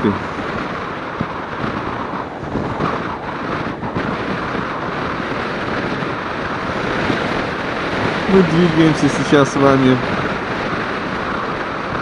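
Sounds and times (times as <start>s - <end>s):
motorcycle running noise: 0.0s - 12.0s
wind rushing over microphone: 0.0s - 12.0s.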